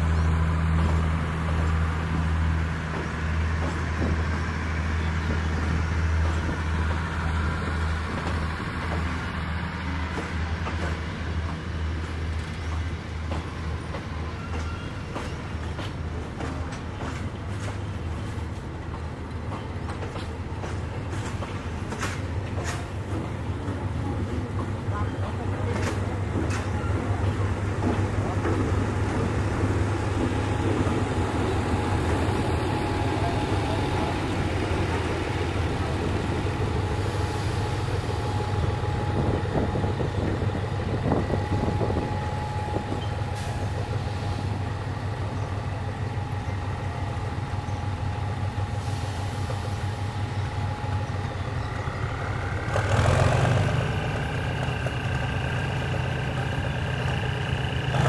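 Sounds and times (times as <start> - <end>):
diesel locomotive droning: 0.0 - 58.0.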